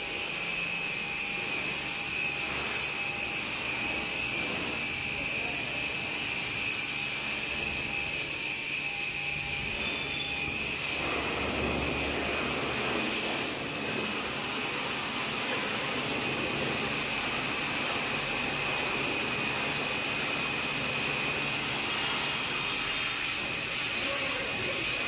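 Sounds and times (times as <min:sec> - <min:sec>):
high-pitched whine: 0:00.0 - 0:25.0
steady machine noise: 0:00.0 - 0:25.0.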